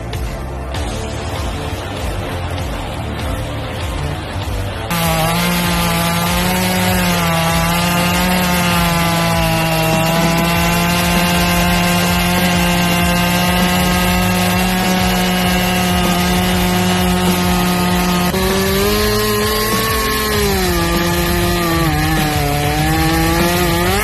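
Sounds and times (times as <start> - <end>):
chainsaw cutting at full throttle: 4.8 - 24.0.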